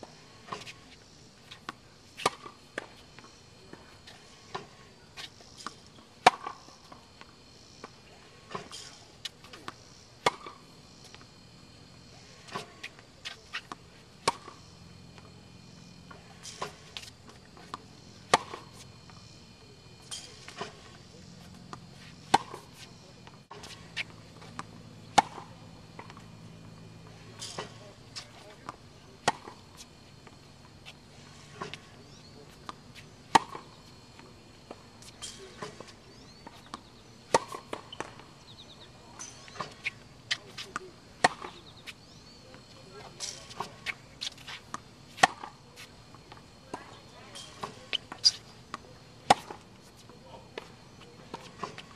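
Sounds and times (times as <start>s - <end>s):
racket striking tennis ball: 1.5s - 7.2s, 8.5s - 10.6s, 12.4s - 14.6s, 16.1s - 19.3s, 20.0s - 26.2s, 27.0s - 38.2s, 39.1s - 42.0s, 43.0s - 46.4s, 47.3s - 51.9s.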